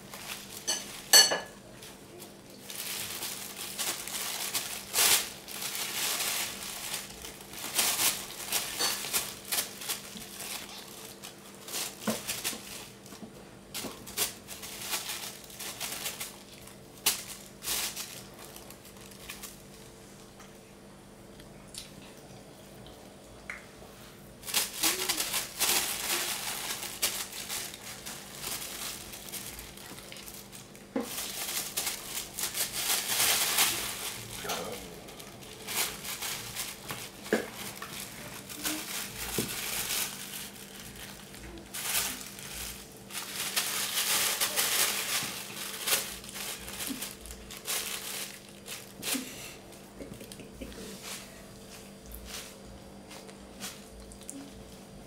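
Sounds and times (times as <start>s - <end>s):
plastic bag crinkling: 0.0s - 20.4s, 24.4s - 54.8s.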